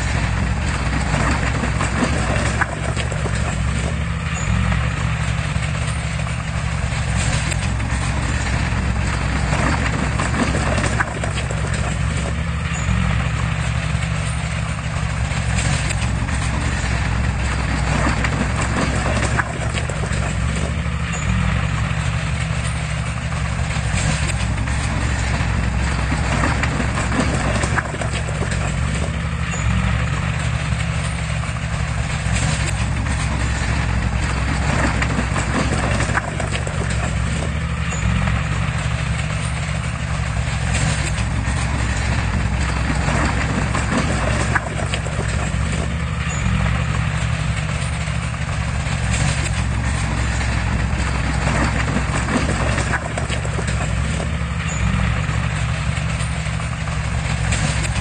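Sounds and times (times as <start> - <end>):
heavy diesel machinery running: 0.0 - 58.0
metallic clanks and knocks: 0.0 - 58.0.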